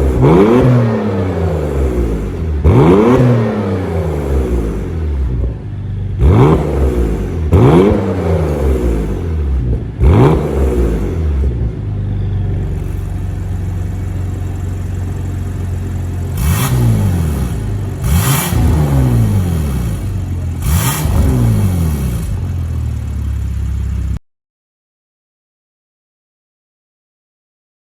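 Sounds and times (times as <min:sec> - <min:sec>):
car engine idling and revving: 0:00.0 - 0:24.2.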